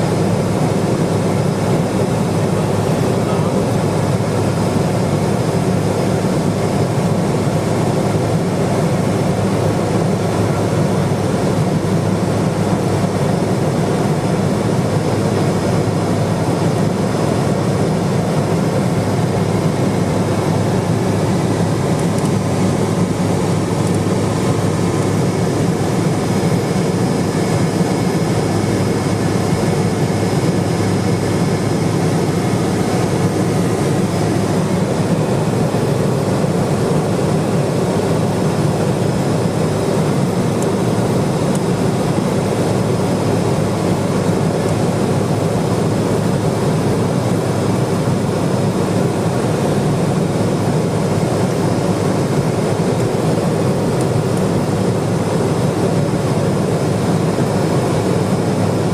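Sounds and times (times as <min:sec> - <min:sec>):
propeller plane cabin drone: 0:00.0 - 0:58.9.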